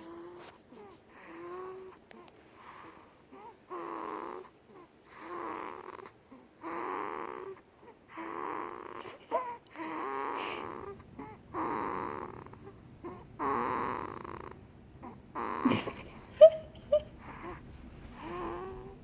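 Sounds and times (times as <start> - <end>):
baby snoring: 0.0 - 16.0, 17.2 - 19.0.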